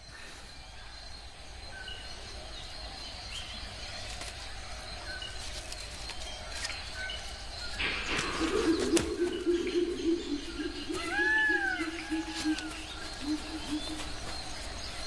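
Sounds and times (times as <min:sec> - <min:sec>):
insect hiss: 0:00.0 - 0:15.0.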